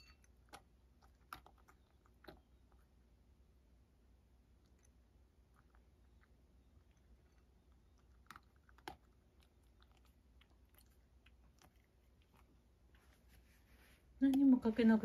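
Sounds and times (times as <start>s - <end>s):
cat chewing dry kibble: 0.2s - 3.2s, 4.4s - 13.5s.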